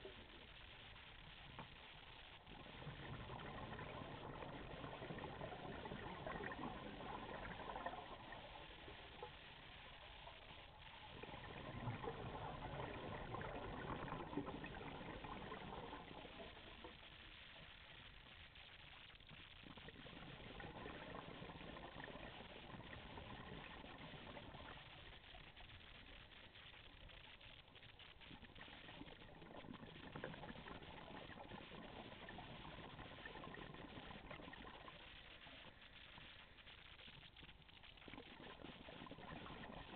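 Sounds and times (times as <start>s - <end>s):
regulator bubbling underwater: 0.0s - 39.9s.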